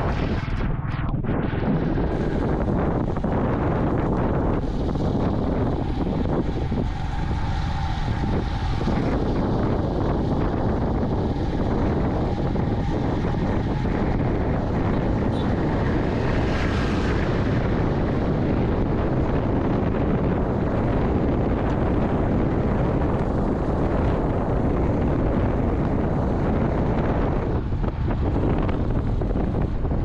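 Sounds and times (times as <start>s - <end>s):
road noise: 0.0s - 30.0s
wind rushing over microphone: 0.0s - 30.0s
motorcycle engine: 2.1s - 30.0s.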